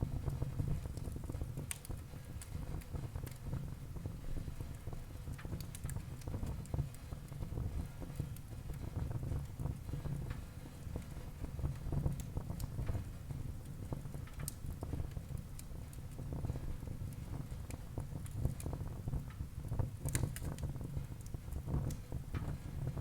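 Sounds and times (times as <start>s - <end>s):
fire flames rumbling: 0.0s - 23.0s
wood fire crackling and popping: 0.0s - 23.0s.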